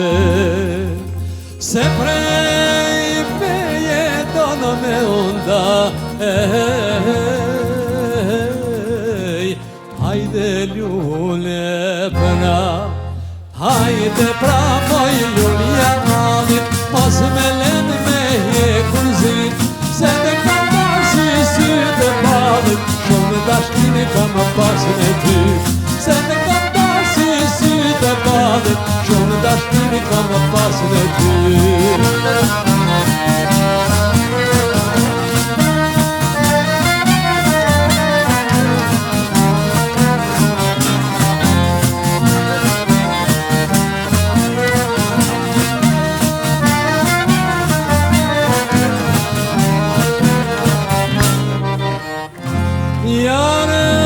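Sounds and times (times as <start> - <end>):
lively folk dance music: 0.0 - 54.0.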